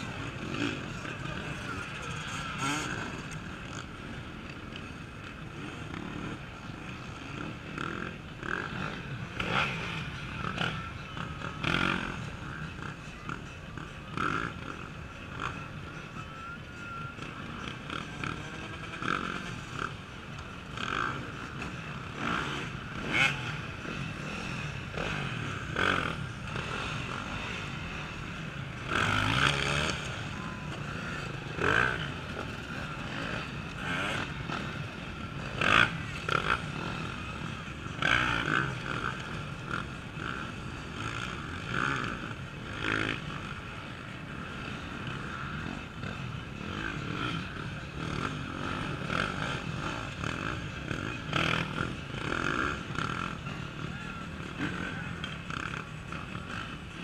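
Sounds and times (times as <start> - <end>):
drone of distant motorcycles: 0.0 - 57.0
motorcycles revving: 0.0 - 57.0.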